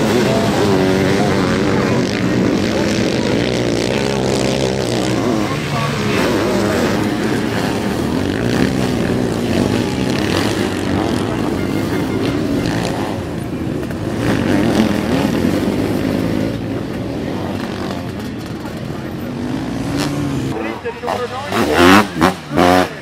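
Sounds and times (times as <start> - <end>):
motorcycle engines revving hard: 0.0 - 23.0.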